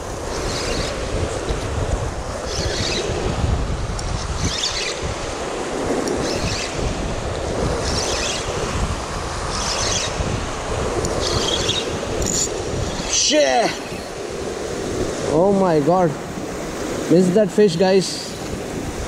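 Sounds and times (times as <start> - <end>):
sea surf: 0.0 - 19.0
wind buffeting microphone: 0.0 - 19.0.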